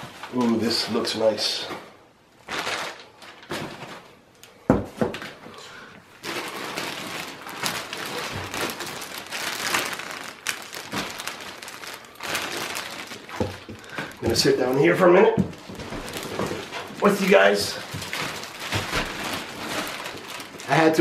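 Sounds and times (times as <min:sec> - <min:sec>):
plastic wrapping crinkling: 0:00.0 - 0:04.6, 0:06.0 - 0:21.0.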